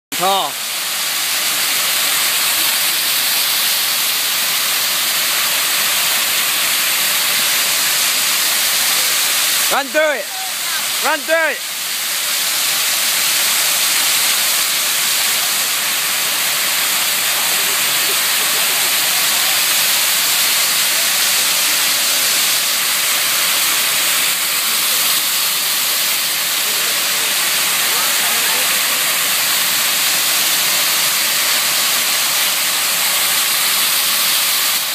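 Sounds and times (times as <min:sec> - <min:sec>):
fountain water splashing: 0:00.1 - 0:34.9.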